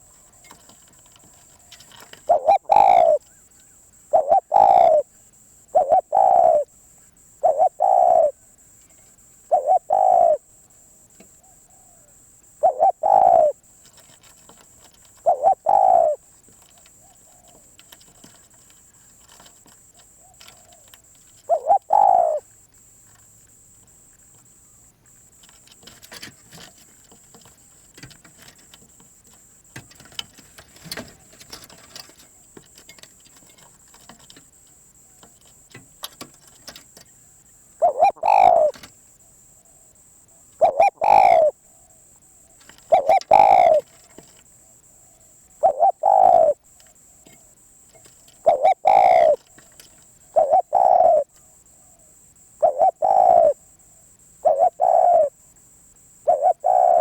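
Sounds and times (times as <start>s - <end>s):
dove cooing: 0.0s - 6.8s, 7.4s - 8.4s, 9.4s - 10.6s, 11.3s - 22.5s, 25.4s - 34.4s, 37.8s - 39.8s, 40.4s - 55.4s, 56.2s - 57.0s
faint high-pitched hum: 0.0s - 57.0s.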